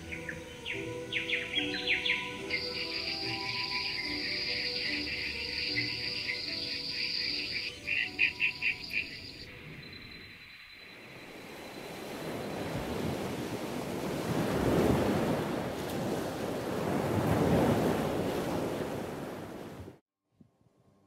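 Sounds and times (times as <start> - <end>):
ocean waves washing: 0.0 - 20.0.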